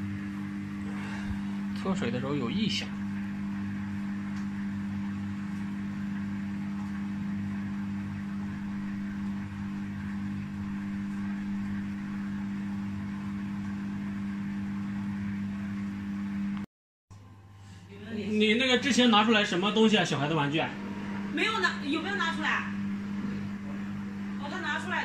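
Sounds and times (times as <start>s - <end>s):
washing machine spinning: 0.0s - 16.6s, 17.9s - 25.0s.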